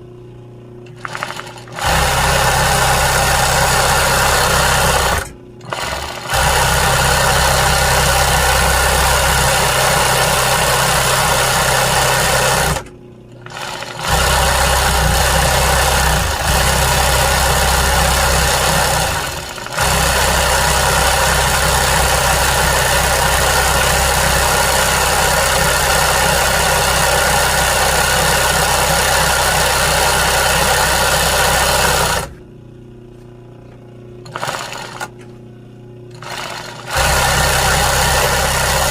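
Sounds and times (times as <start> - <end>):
sewing machine stitching: 0.9 - 32.4, 34.2 - 35.2, 36.1 - 38.9.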